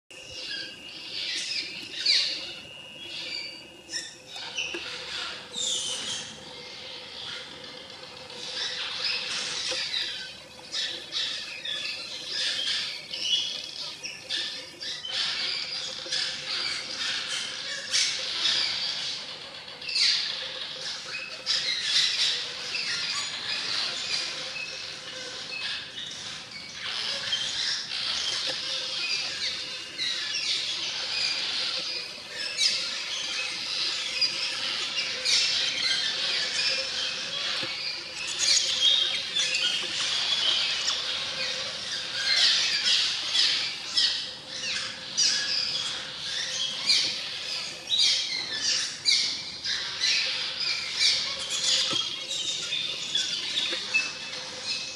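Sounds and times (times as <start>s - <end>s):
swallows chattering: 0.2s - 54.9s.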